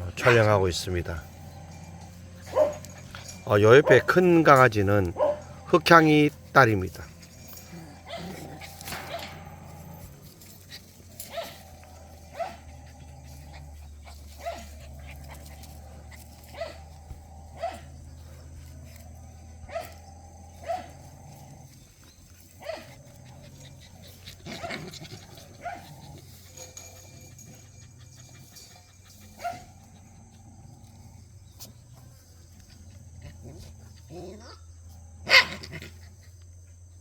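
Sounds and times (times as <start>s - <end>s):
puppies yapping: 0.0s - 36.6s.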